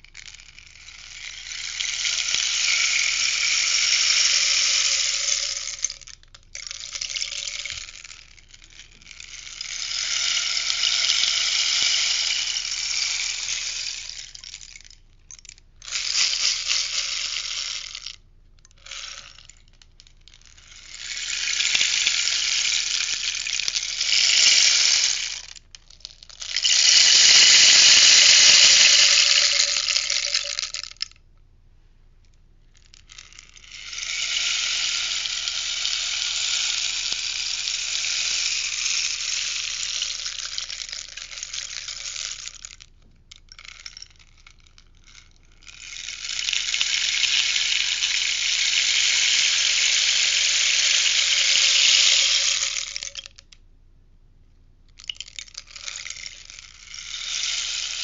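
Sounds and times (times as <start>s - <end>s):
rainstick pattering: 0.0s - 31.2s, 32.7s - 53.6s, 55.0s - 58.0s.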